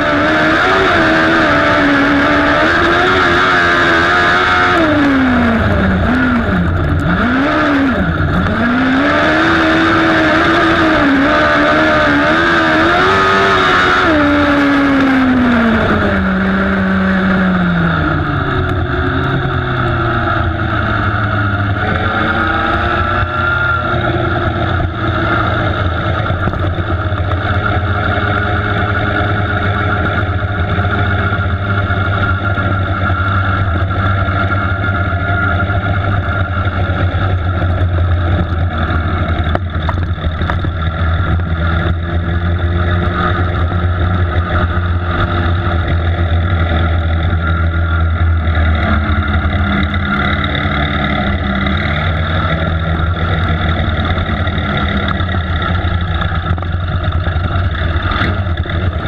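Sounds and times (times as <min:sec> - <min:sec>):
racing engine running hard: 0:00.0 - 0:59.0.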